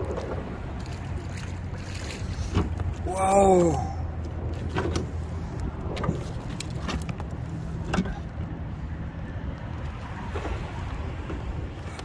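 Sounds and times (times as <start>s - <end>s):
traffic rumble on bridge: 0.0s - 12.0s.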